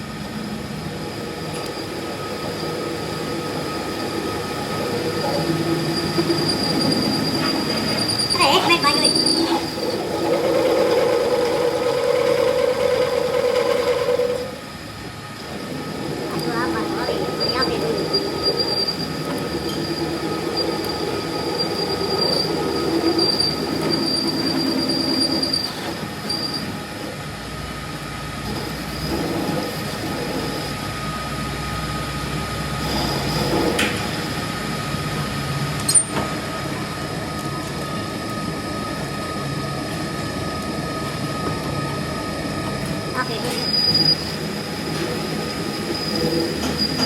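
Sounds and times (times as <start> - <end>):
high squealing whine: 0.0 - 47.0
machine noise: 0.0 - 47.0.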